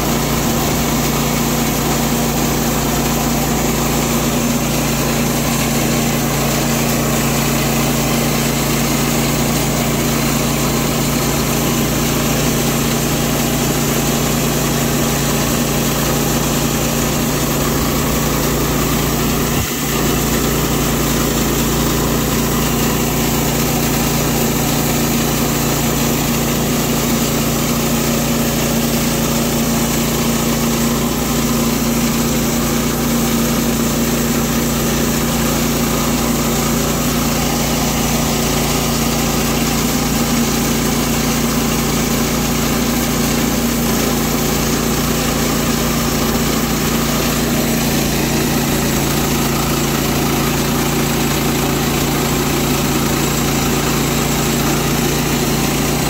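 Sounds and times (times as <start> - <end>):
bandsaw mill sawing a log: 0.0 - 56.0.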